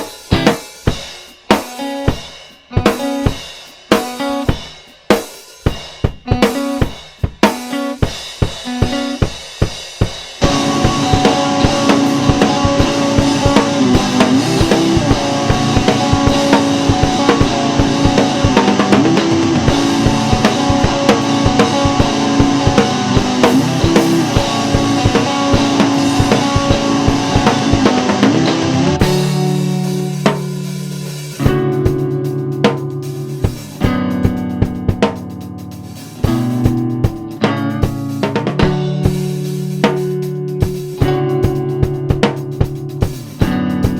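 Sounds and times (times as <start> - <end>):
drum lead-in: 0.0 - 43.9
rock band playing: 0.0 - 43.9.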